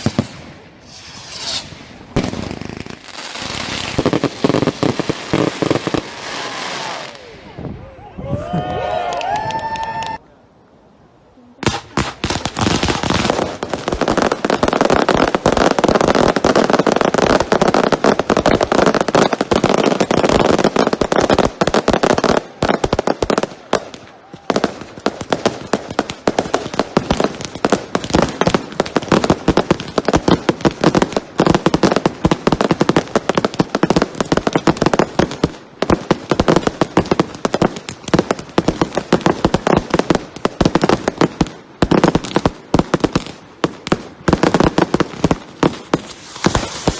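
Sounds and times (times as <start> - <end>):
fireworks cracks and bangs: 0.0 - 7.7, 11.6 - 46.9.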